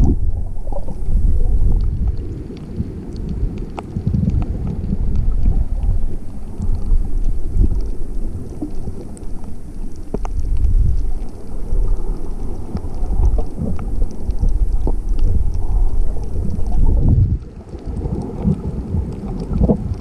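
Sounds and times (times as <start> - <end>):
faint clicks and ticks: 0.0 - 20.0
muffled underwater surf rumble: 0.0 - 20.0.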